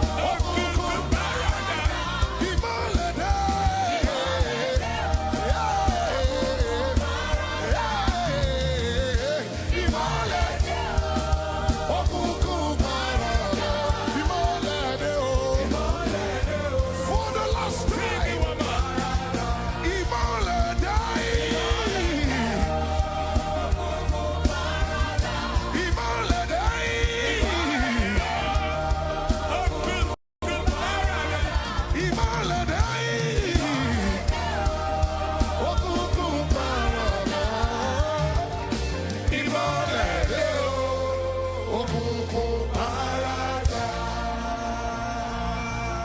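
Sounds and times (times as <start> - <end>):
gospel band playing: 0.0 - 46.0
lead singer vocal runs: 0.0 - 46.0.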